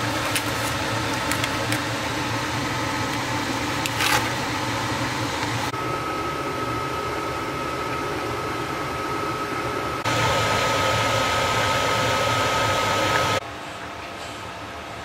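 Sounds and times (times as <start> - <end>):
appliance fan whirring with high whine: 0.0 - 15.0.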